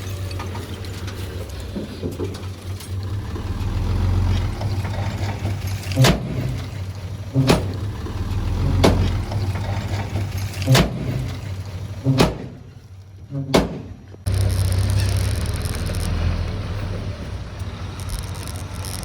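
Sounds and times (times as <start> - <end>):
diesel engine running: 0.0 - 19.0
loud metallic bangs: 1.9 - 17.2.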